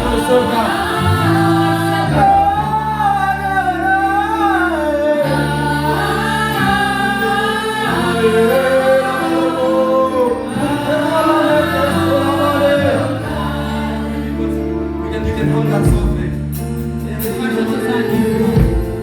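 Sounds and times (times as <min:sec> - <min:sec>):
gospel voices singing: 0:00.0 - 0:19.0.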